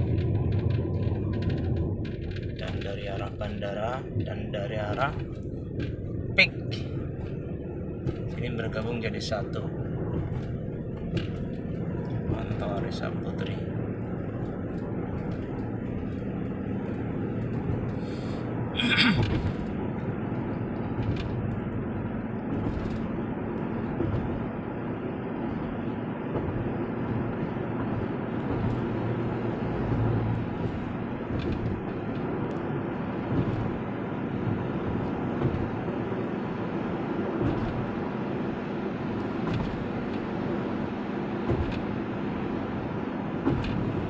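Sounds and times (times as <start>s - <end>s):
car engine at speed: 0.0s - 44.0s
car tyres road noise: 0.0s - 44.0s.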